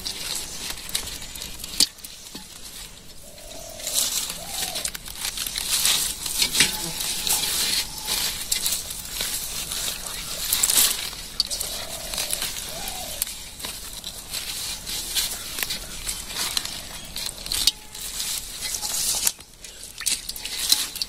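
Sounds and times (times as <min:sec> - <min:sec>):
plastic net rustling and crinkling: 0:00.0 - 0:21.0.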